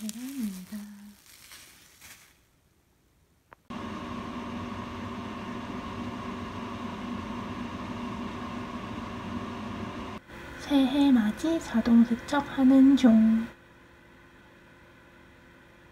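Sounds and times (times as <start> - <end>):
fan or motor humming: 0.0 - 2.6, 3.7 - 15.9.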